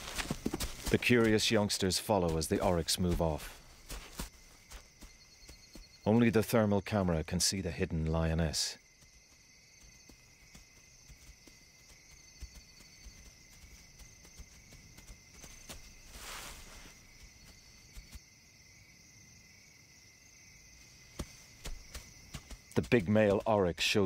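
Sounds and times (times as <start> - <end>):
night insects trilling: 0.0 - 24.0.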